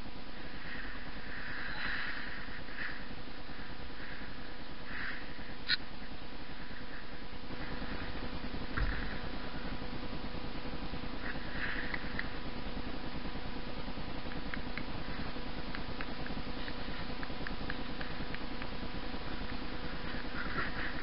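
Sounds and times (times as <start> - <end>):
faint electronic hum: 0.0 - 21.0.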